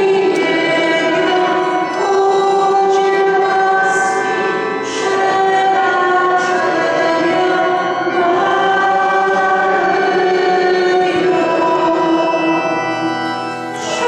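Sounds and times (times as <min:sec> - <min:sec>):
voices singing a hymn: 0:00.0 - 0:14.0.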